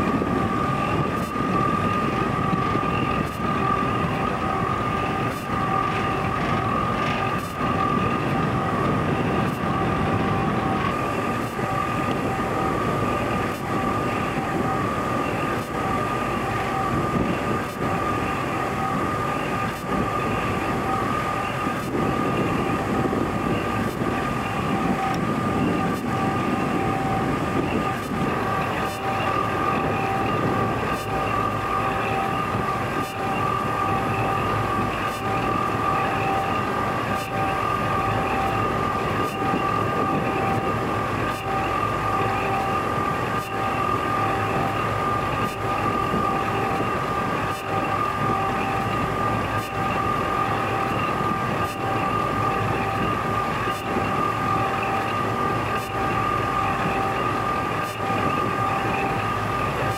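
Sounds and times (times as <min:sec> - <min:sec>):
constant high whine: 0:00.0 - 0:59.9.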